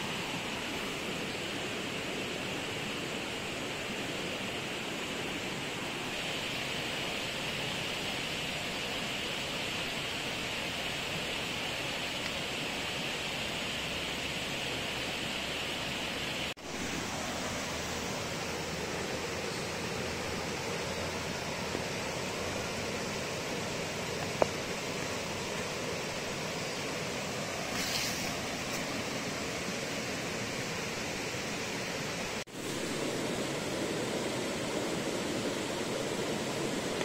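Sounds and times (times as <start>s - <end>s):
night-time forest ambience hiss: 0.0s - 37.0s.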